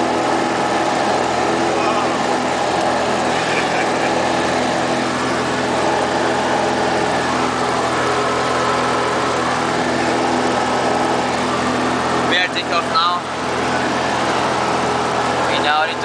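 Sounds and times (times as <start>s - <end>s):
propeller engine droning: 0.0s - 16.0s.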